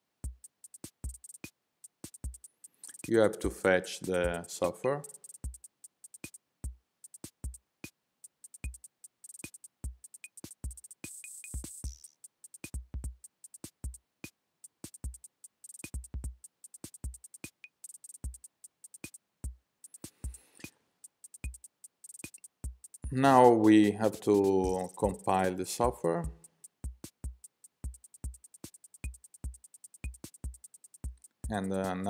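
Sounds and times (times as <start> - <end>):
sharp drum machine clicks: 0.2 - 6.4, 7.0 - 7.6, 8.2 - 14.0, 14.7 - 19.2, 19.9 - 32.0.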